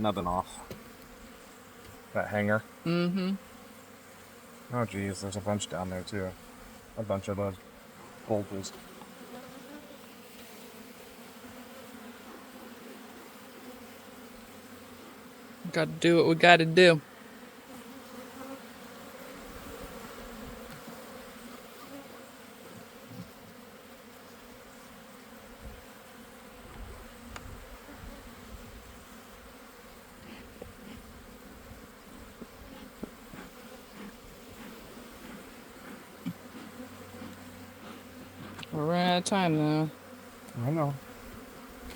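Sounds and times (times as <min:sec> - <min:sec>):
honey bees buzzing: 0:00.0 - 0:41.9.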